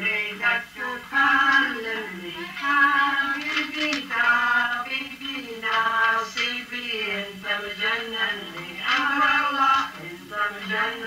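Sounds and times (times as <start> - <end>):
person singing with music: 0.0 - 11.0.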